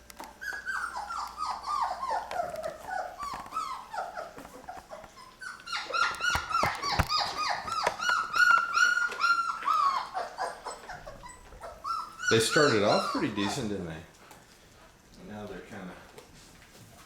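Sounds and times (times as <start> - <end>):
puppies whining and yelping: 0.0 - 13.9.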